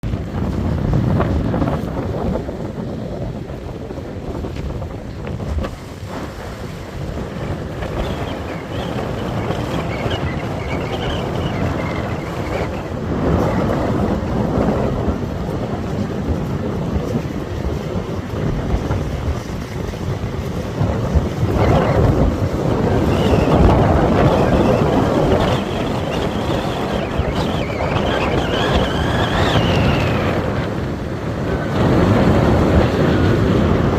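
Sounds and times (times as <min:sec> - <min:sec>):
high wind whistle: 0:00.0 - 0:33.9
wind gusting against microphone: 0:00.0 - 0:33.9.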